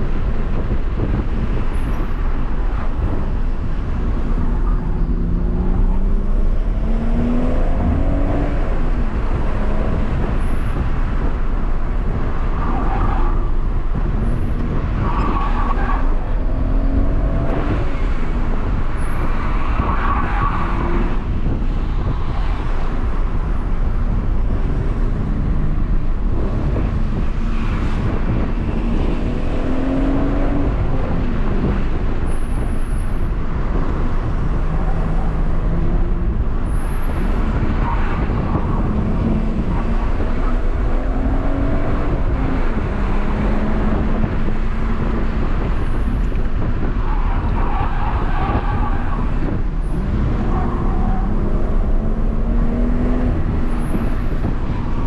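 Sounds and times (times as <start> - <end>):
car engine revving: 0.0 - 55.0
tyre and road noise: 0.0 - 55.0.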